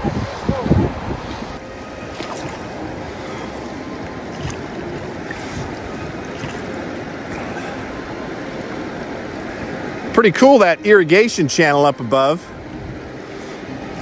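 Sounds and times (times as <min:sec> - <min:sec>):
river current rushing: 0:00.0 - 0:14.0.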